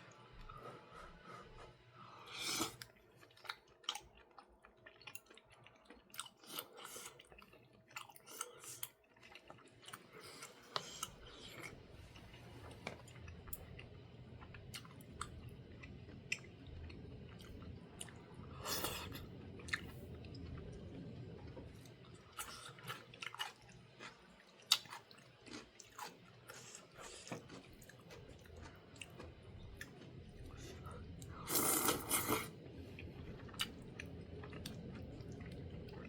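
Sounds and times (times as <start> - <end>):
person chewing close up: 2.3 - 36.0.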